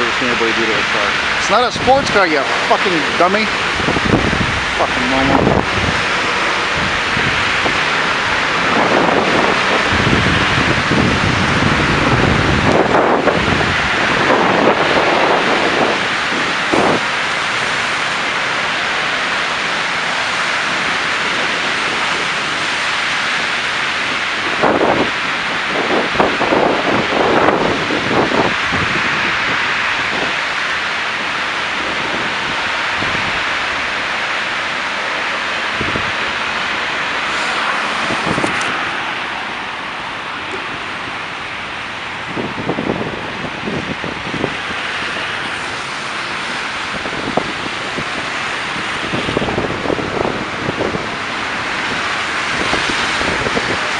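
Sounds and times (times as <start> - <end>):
passing traffic hiss: 0.0 - 53.9
wind on microphone: 0.0 - 53.9.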